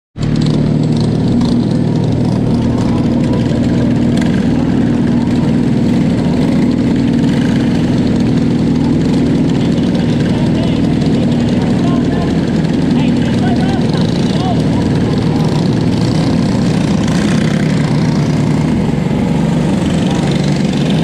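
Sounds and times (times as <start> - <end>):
kart engines idling: 0.2 - 21.0.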